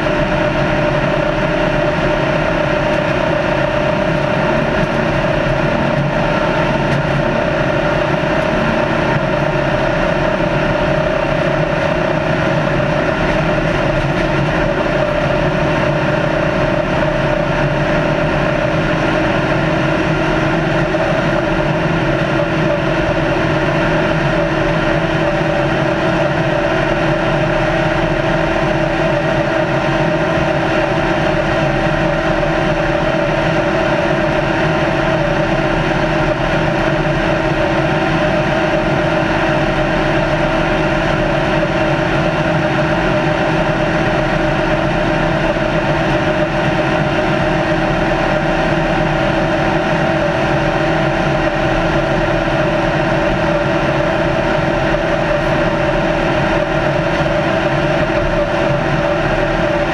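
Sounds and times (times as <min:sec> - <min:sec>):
race car engine running: 0:00.0 - 0:59.9
road and wind noise: 0:00.0 - 0:59.9.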